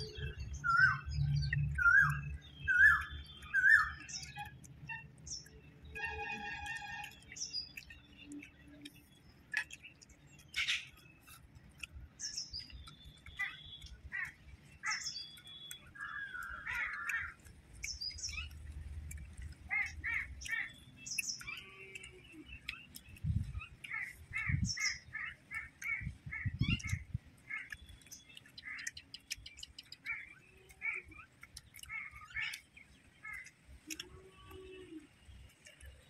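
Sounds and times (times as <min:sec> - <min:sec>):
birds calling: 0:00.0 - 0:36.0.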